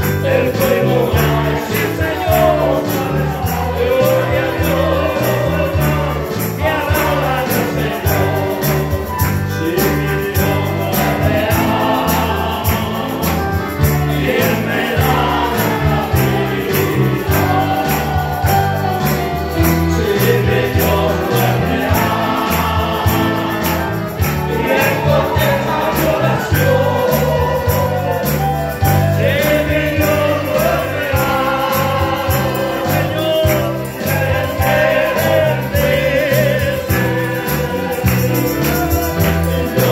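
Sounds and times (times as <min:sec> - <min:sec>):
bass line: 0:00.0 - 0:39.9
group of voices singing: 0:00.0 - 0:39.9
drum beat: 0:00.2 - 0:39.9.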